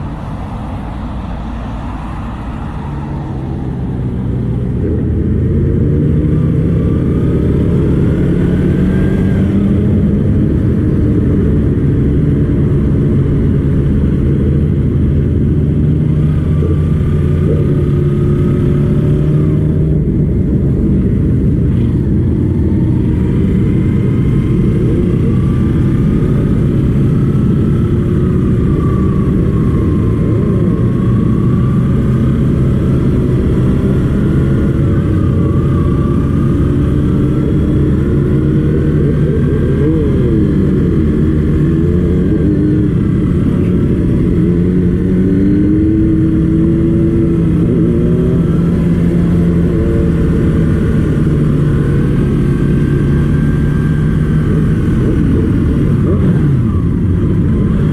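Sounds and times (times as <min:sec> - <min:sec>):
motorcycle engine running: 0:04.0 - 0:57.9.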